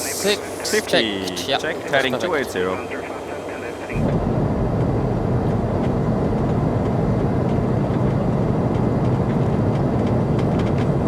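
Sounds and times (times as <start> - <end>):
cockpit airflow and engine rush: 0.0 - 11.0.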